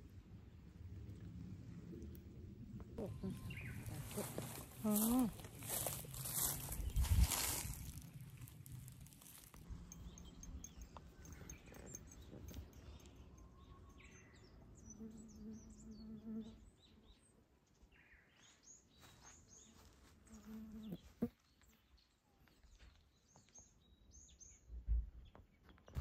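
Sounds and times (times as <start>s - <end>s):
small birds chirping: 3.0s - 26.0s.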